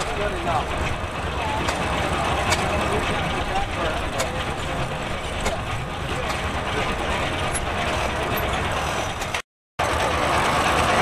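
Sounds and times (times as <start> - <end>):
sawmill running: 0.0 - 11.0.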